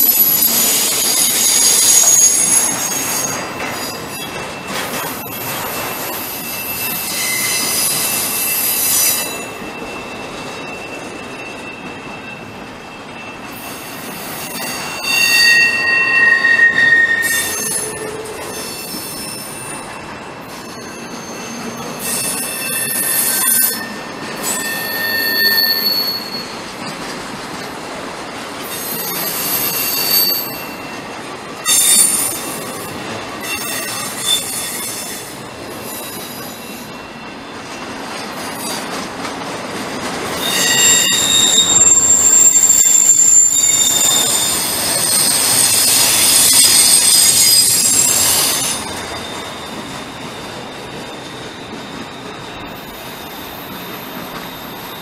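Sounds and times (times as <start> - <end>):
rumble of rolling freight cars: 0.0 - 55.0
train wheels squealing on rails: 0.0 - 55.0.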